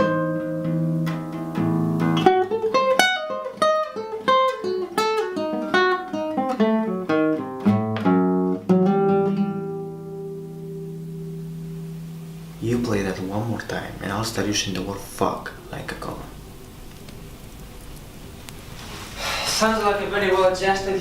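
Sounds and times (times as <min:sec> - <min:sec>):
fingerpicked acoustic guitar: 0:00.0 - 0:19.2.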